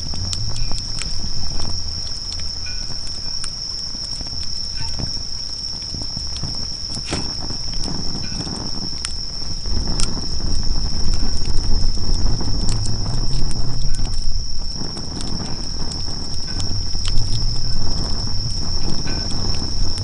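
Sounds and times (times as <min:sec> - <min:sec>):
campfire crackling and popping: 0:00.0 - 0:20.0
insect trill: 0:00.0 - 0:20.0
low rumble: 0:00.0 - 0:20.0.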